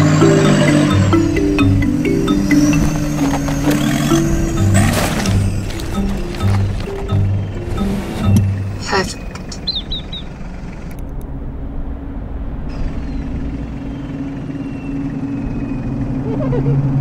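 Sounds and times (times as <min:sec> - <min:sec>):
bird chirping: 0:00.0 - 0:11.0, 0:12.7 - 0:16.7
car engine idling: 0:00.0 - 0:17.0.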